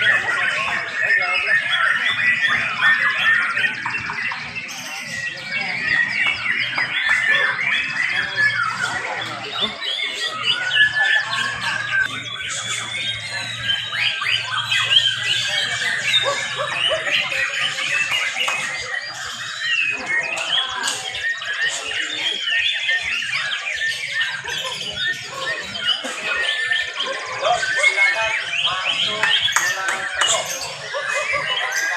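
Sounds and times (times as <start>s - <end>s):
many birds singing: 0.0s - 31.9s.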